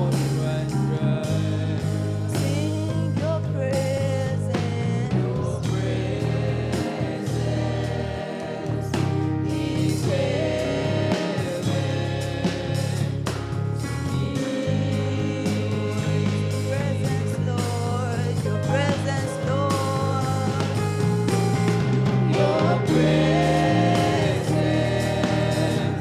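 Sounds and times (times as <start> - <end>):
band with bass and drums: 0.0 - 26.0
voices singing worship song: 0.0 - 26.0.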